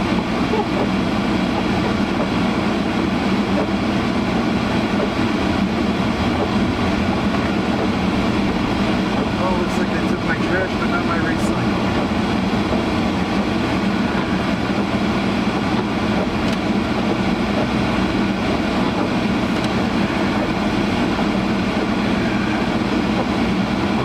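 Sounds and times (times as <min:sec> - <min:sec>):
car blower rushing: 0:00.0 - 0:24.0.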